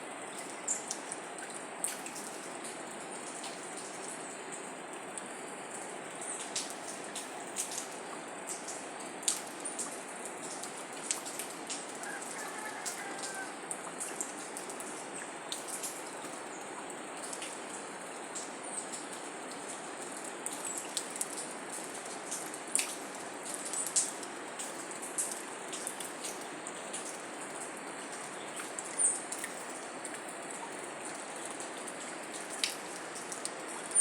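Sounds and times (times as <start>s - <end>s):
sharp drip-like ticks: 0.0s - 34.0s.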